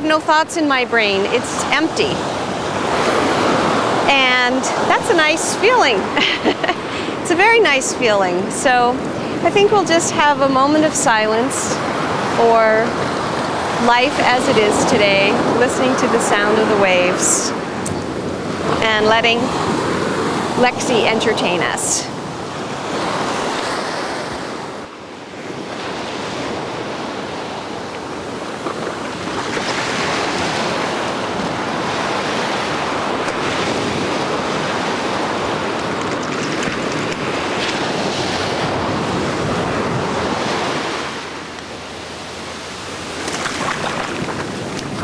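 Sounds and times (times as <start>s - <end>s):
ocean surf breaking: 0.0s - 45.0s.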